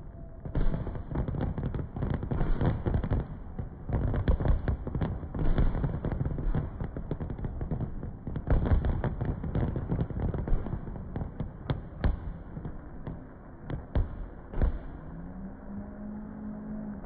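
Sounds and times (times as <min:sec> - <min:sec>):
fireworks bangs and crackles: 0:00.0 - 0:15.2.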